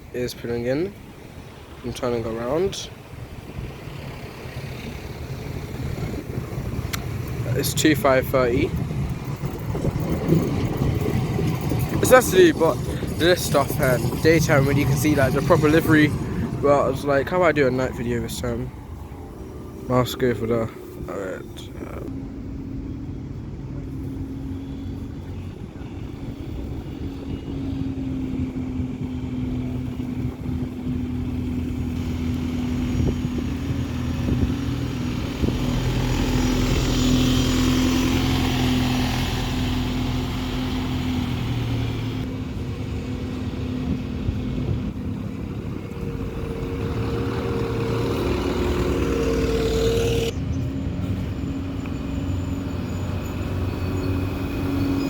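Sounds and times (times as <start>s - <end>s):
bus engines rumbling: 0.0s - 55.0s.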